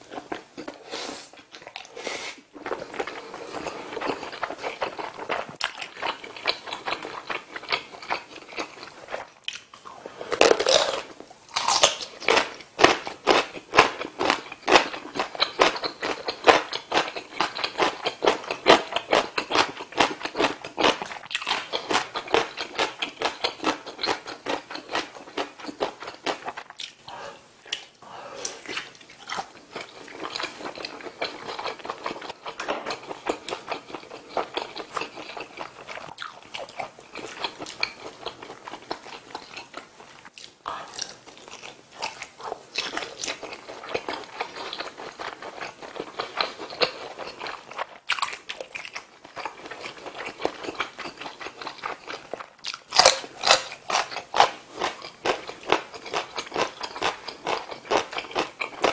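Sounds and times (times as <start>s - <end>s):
wet chewing and crunching: 2.6s - 27.1s, 28.6s - 58.9s.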